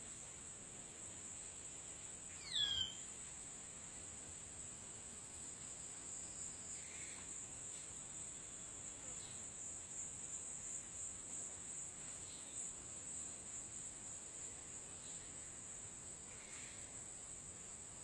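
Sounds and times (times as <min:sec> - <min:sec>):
crickets chorus drone: 0:00.1 - 0:18.0
faint short insect calls: 0:01.2 - 0:03.4, 0:05.1 - 0:18.0.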